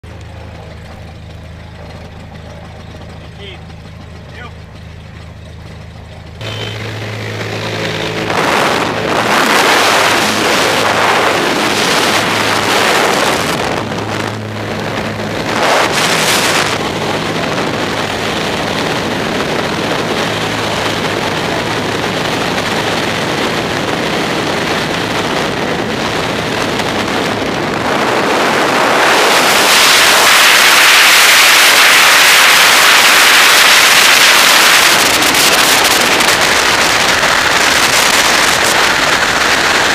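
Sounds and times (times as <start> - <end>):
propeller aircraft engine: 0.0 - 39.9
freefall wind on microphone: 6.4 - 39.9.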